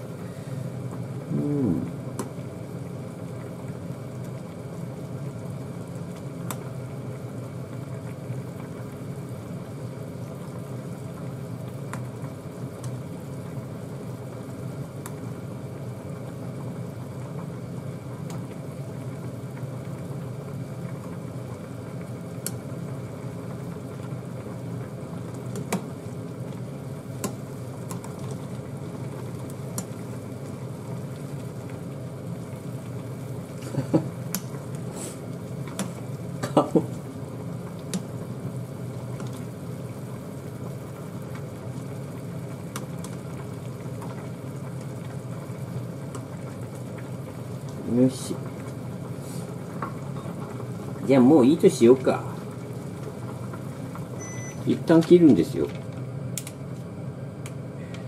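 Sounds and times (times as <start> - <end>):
saucepan boiling: 0.0 - 58.0.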